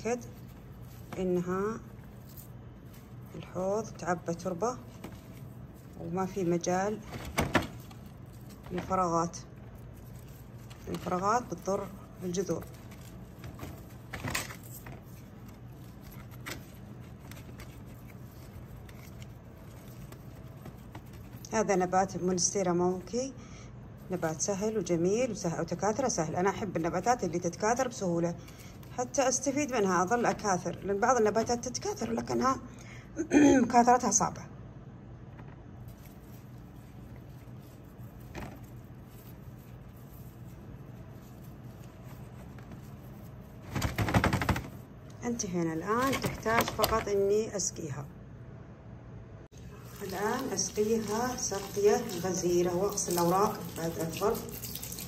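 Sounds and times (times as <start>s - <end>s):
gloved hand handling potted plant: 0.0s - 23.3s, 24.0s - 32.6s, 35.6s - 47.4s, 49.7s - 55.0s
low steady hum: 0.0s - 55.0s.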